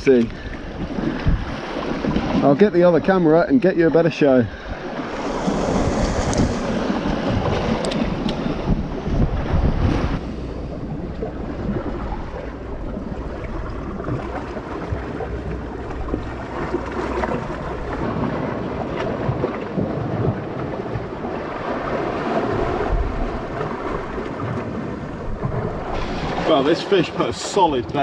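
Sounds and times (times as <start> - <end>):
waves washing against rocks: 0.0 - 28.0
wind buffeting microphone: 0.0 - 28.0.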